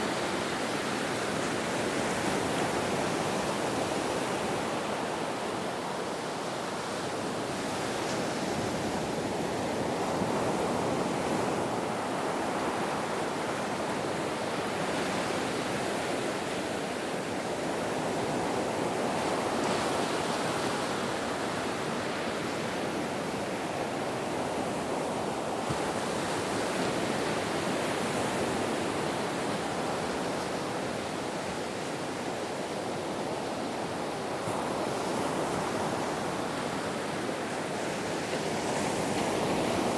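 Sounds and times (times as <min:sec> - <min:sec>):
ocean waves: 0:00.0 - 0:39.9.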